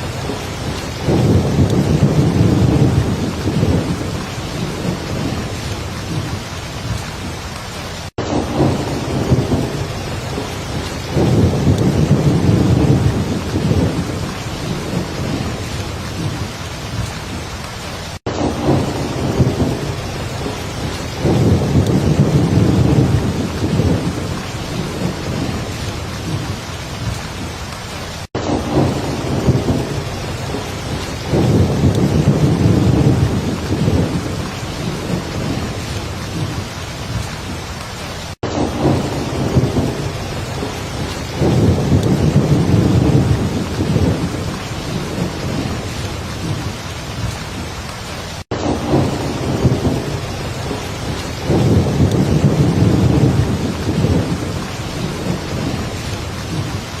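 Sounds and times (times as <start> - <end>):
deep rolling thunder: 0.0 - 7.4, 8.2 - 27.5, 28.3 - 37.6, 38.4 - 47.6, 48.5 - 57.0
heavy rain falling: 0.0 - 57.0.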